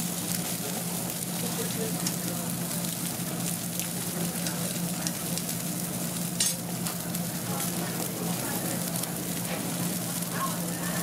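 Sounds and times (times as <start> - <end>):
fish sizzling over charcoal: 0.0 - 11.0.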